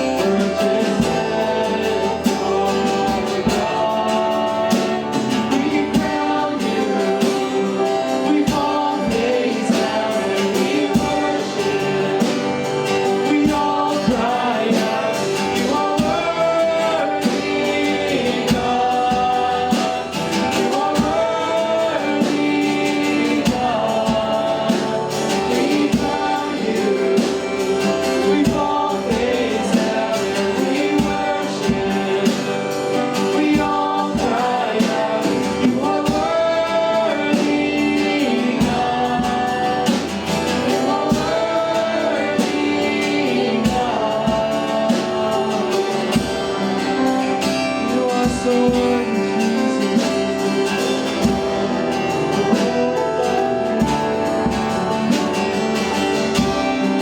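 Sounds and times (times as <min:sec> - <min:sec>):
guitar accompaniment: 0:00.0 - 0:57.0
voices singing together: 0:00.0 - 0:57.0.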